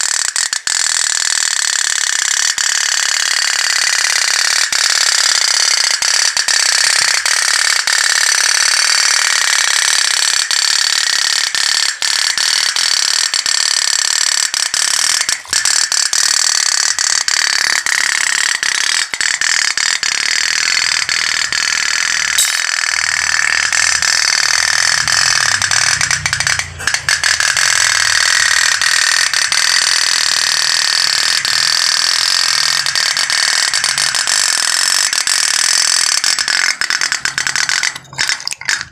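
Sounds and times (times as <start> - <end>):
toy steam boat rattling buzz: 0.0 - 38.9.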